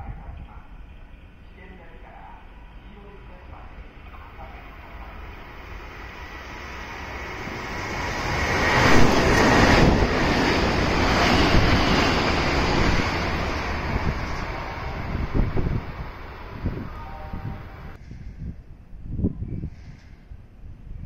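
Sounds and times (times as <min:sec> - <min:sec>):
train wheels rumbling on rail: 0:00.0 - 0:18.5.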